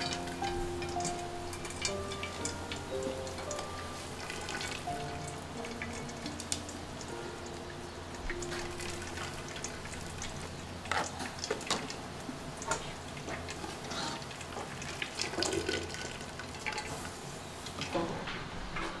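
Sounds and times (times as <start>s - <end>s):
water dripping and splashing: 0.0s - 17.8s.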